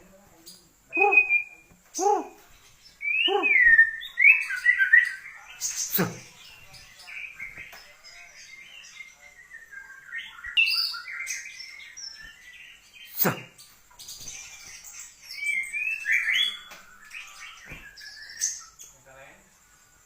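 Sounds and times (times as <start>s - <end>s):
songbird singing whistles: 0.9s - 6.3s, 7.1s - 18.9s.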